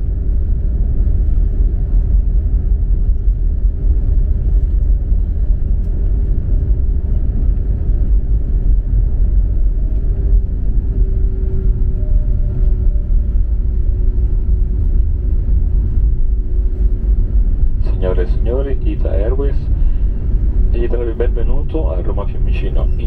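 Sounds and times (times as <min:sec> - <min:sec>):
airliner engines rumbling: 0:00.0 - 0:23.0
faint steady hum: 0:00.0 - 0:23.0.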